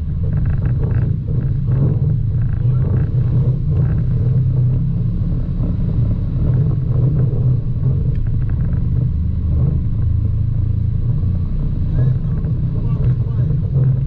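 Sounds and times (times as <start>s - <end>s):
utility vehicle engine running: 0.0s - 14.0s.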